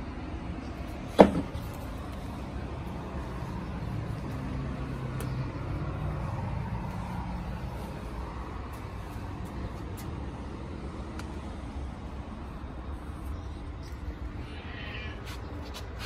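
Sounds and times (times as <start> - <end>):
road traffic rumble: 0.0 - 16.0
vehicle engine hum: 0.0 - 16.0.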